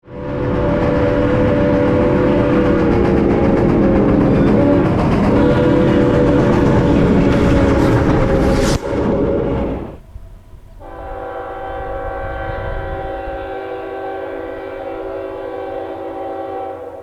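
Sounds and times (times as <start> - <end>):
locomotive air horn chord: 0.0 - 17.0
low rumble of train: 0.0 - 17.0.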